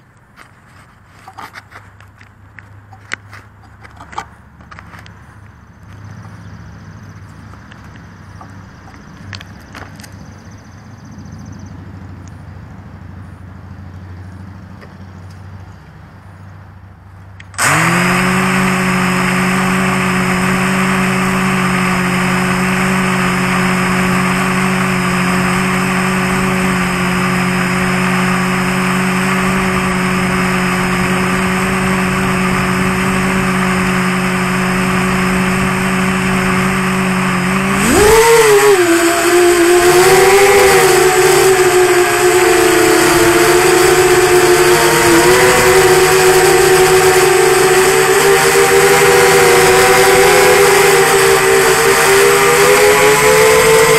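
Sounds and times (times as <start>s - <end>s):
quadcopter motors humming: 1.1s - 53.9s.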